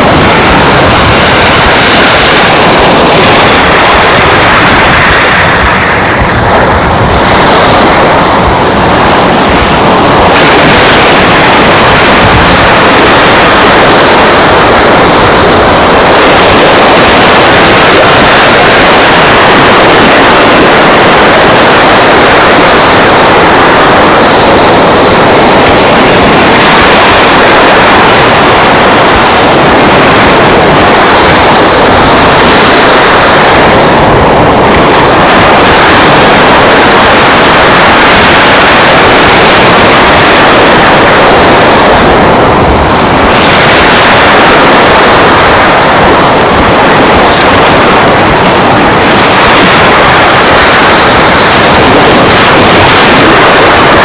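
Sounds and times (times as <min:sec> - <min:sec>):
surf at the shore: 0:00.0 - 0:54.0
wind: 0:00.0 - 0:54.0.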